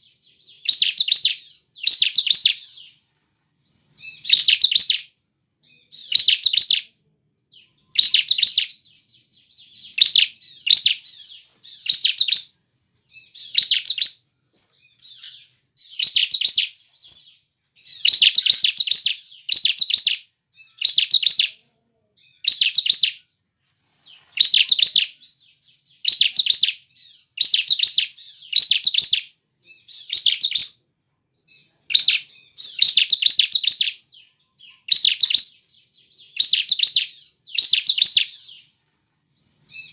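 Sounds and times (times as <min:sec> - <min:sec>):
bird rapid high chirping: 0:00.0 - 0:03.0, 0:03.7 - 0:21.6, 0:22.2 - 0:30.8, 0:31.4 - 0:38.7, 0:39.4 - 0:39.9.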